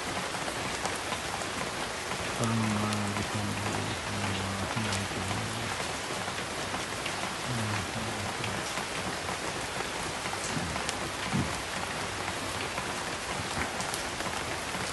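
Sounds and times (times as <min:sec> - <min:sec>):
rain pattering on leaves: 0:00.0 - 0:14.9.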